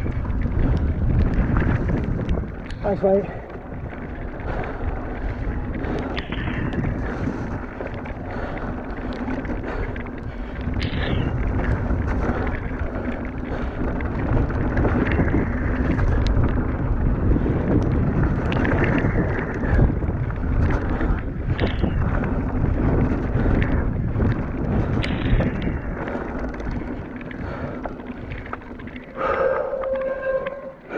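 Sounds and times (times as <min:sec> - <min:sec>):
bike rattles and knocks: 0:00.0 - 0:30.9
bike tyres rolling on wet gravel: 0:00.0 - 0:30.9
wind buffeting microphone: 0:00.0 - 0:30.9.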